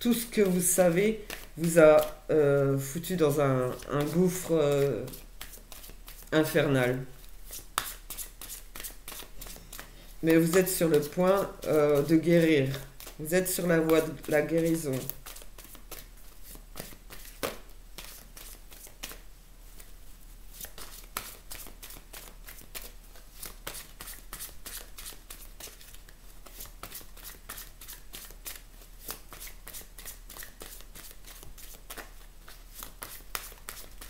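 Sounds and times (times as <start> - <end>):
cards being shuffled: 0.2 - 19.9, 20.5 - 34.0.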